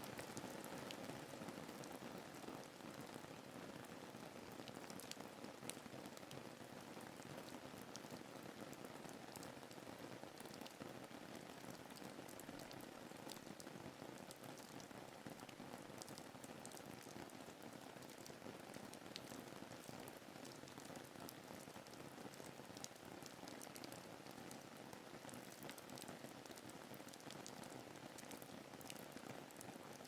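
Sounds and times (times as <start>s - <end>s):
rain hiss with drop ticks: 0.0s - 30.0s.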